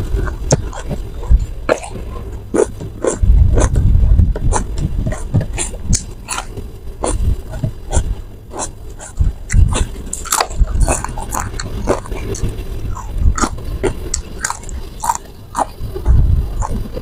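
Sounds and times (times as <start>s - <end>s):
chewing crunchy cucumber: 0.0s - 17.0s.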